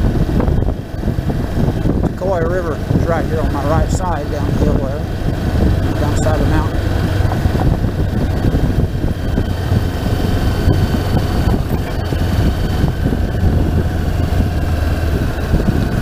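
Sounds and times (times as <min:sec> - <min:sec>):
motorcycle engine cruising: 0:00.0 - 0:16.0
road noise on gravel: 0:00.0 - 0:16.0.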